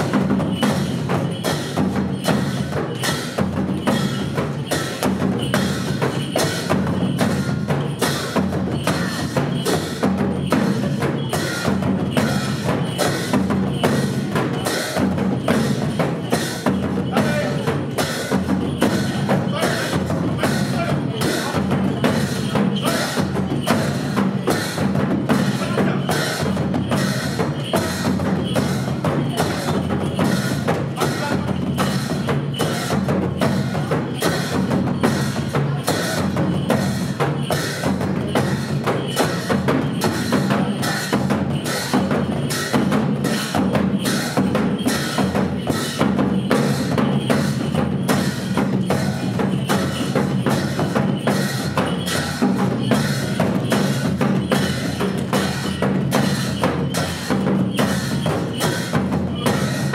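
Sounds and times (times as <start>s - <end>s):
drums beating fast rhythm: 0.0s - 59.9s.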